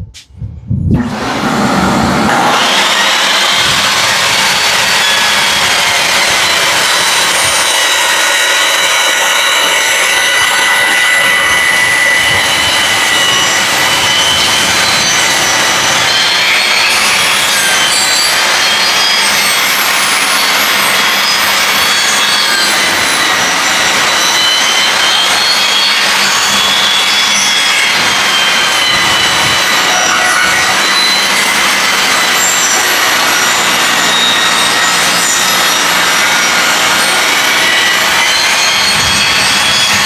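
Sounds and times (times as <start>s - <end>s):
high whine from saw cut: 0.9s - 40.0s
table saw cutting wood: 1.0s - 40.0s.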